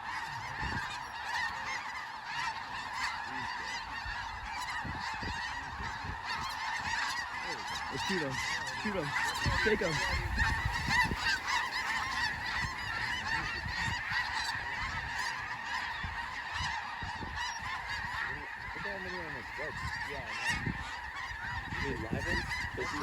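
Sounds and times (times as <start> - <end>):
geese honking: 0.0 - 23.0.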